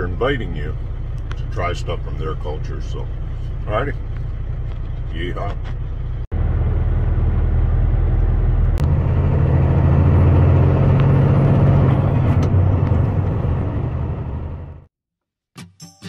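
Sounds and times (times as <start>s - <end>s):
truck engine rumble from cab: 0.0s - 14.9s.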